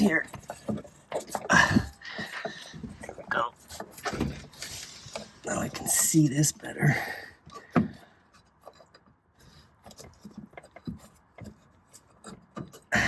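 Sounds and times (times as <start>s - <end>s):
hands clicking and tapping metal: 0.0s - 5.3s, 7.4s - 13.0s.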